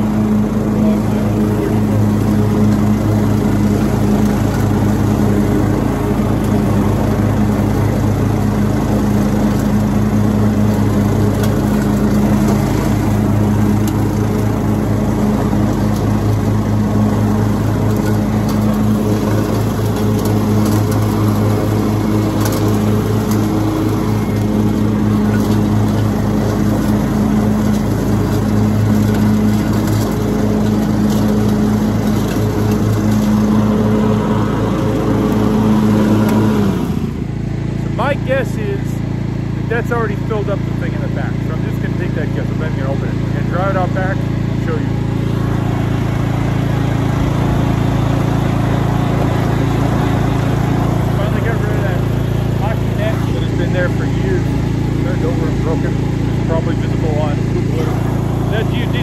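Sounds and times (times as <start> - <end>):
riding mower engine running: 0.0 - 59.0.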